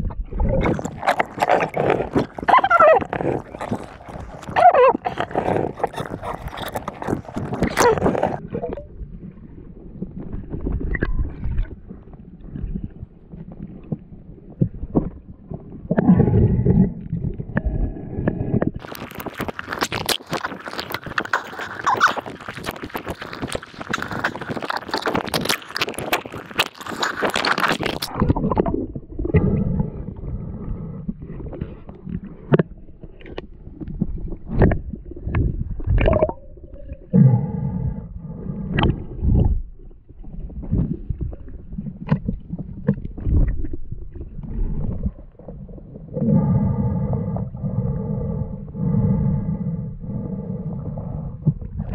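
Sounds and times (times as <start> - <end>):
knocks of movement in water: 0.0 - 51.9
muffled underwater rumbling: 0.0 - 51.9.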